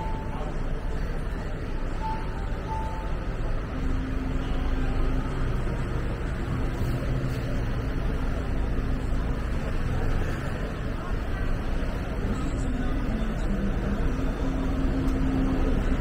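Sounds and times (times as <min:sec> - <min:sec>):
engine hum: 0:00.0 - 0:16.0
vehicle engines rumbling: 0:00.0 - 0:16.0.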